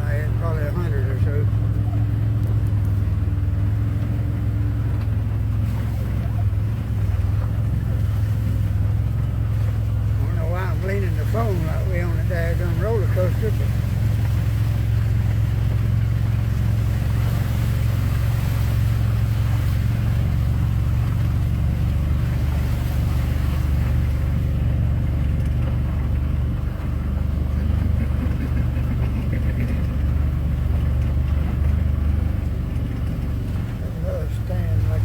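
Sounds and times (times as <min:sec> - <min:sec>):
vehicle engine droning: 0:00.0 - 0:35.0.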